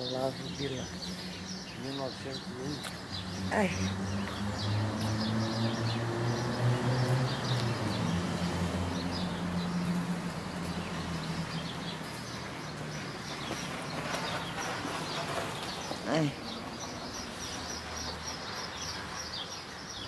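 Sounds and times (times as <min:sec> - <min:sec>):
vehicle engine humming: 0:00.0 - 0:19.4
small birds chirping: 0:00.0 - 0:20.0.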